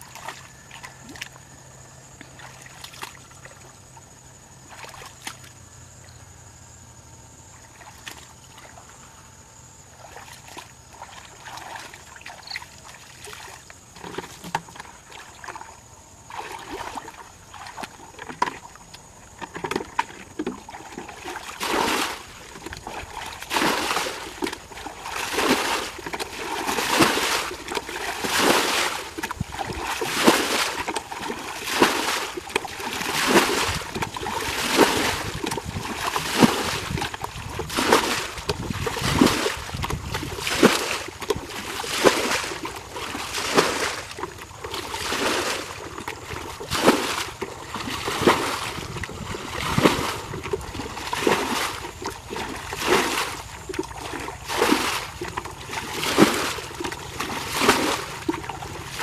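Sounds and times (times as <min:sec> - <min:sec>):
bucket water splashing: 0:00.0 - 0:05.7, 0:07.6 - 0:09.0, 0:09.9 - 0:59.0
water splashes and trickles: 0:00.0 - 0:06.2, 0:07.4 - 0:59.0.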